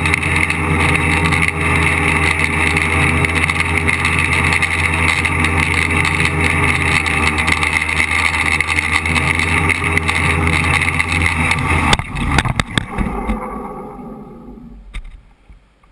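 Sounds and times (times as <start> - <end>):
drone motors whining: 0.0 - 15.6.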